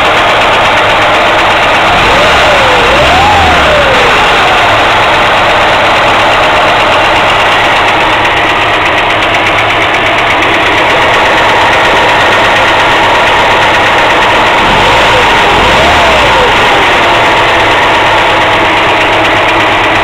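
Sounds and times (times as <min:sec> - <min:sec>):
car engine idling: 0:00.0 - 0:20.0
rapid metallic engine knocking: 0:00.0 - 0:20.0.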